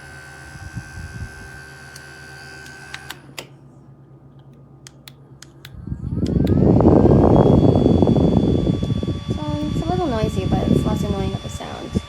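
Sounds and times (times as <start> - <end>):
handheld fan humming and whining: 0.0 - 12.0.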